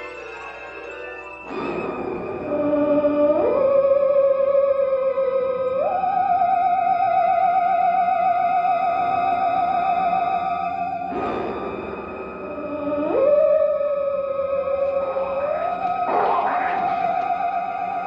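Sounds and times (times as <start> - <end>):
theremin melody with vibrato: 0.0 - 11.2, 12.3 - 18.0.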